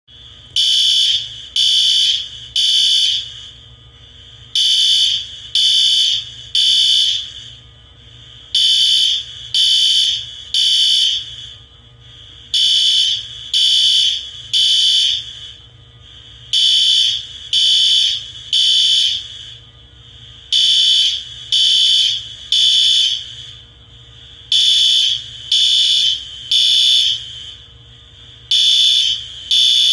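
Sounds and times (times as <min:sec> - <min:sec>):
fire alarm beeping: 0:00.3 - 0:29.9.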